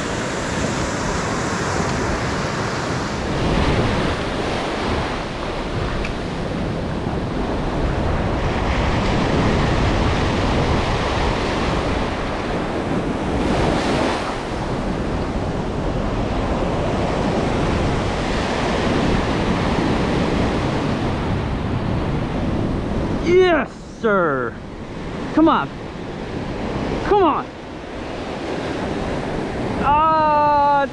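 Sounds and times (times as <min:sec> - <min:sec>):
ocean surf washing ashore: 0:00.0 - 0:30.9
wind buffeting microphone: 0:00.0 - 0:30.9.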